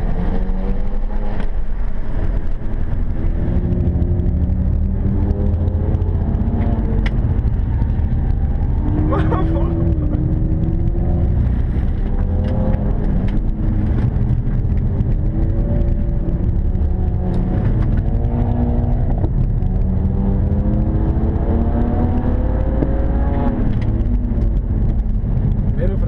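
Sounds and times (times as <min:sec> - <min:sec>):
car engine accelerating hard: 0:00.0 - 0:26.0
low road rumble: 0:00.0 - 0:26.0.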